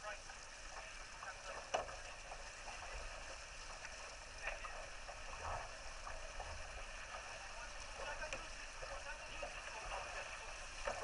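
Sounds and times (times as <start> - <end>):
water rushing along a hull: 0.0 - 11.0.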